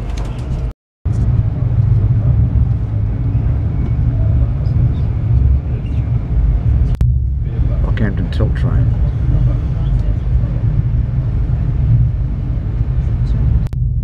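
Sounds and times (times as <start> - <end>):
train rumble at speed: 0.0 - 14.0.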